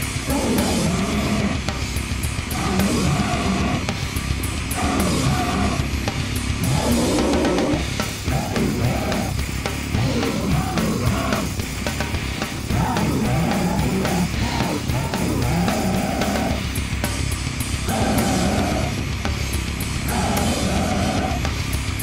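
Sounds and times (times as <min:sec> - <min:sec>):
drum kit: 0:00.0 - 0:22.0
electric guitars: 0:00.0 - 0:22.0.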